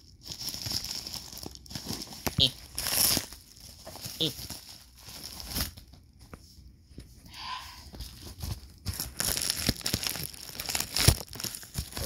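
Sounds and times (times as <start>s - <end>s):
plastic mailer crinkling: 0.0s - 6.0s, 8.0s - 12.0s.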